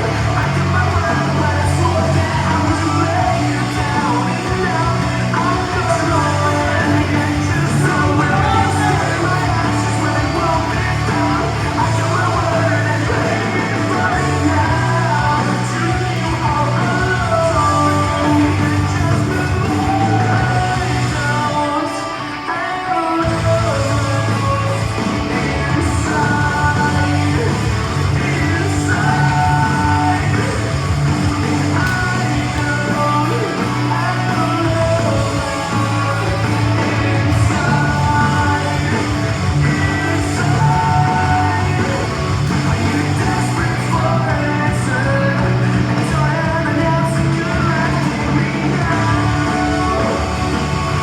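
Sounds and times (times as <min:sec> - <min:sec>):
rock music with singing: 0:00.0 - 0:51.0.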